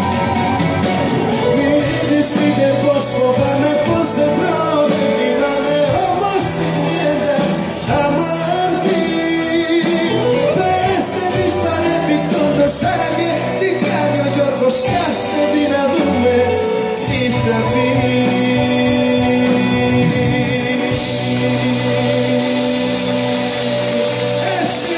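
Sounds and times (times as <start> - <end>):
live band playing: 0.0 - 24.9
man singing: 1.1 - 24.9.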